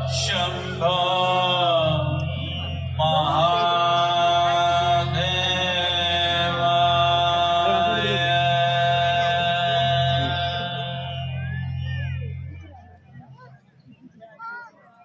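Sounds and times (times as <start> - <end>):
man chanting a long note: 0.0 - 12.9
low continuous drone: 0.0 - 13.5.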